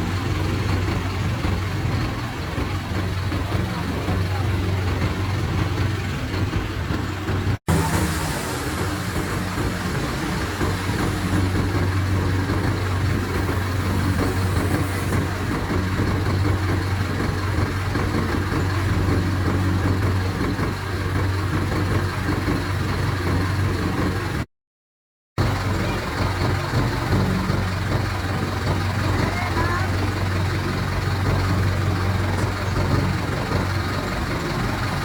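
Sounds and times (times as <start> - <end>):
diesel engine idling: 0.0 - 24.5, 25.4 - 35.0.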